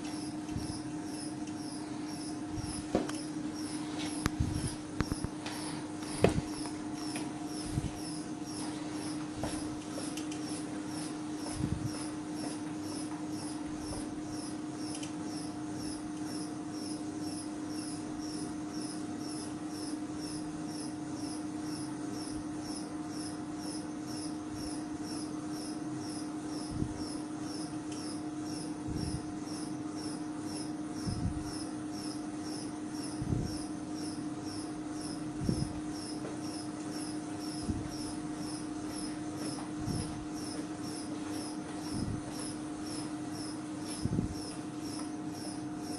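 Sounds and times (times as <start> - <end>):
testing machine humming: 0.0 - 45.9.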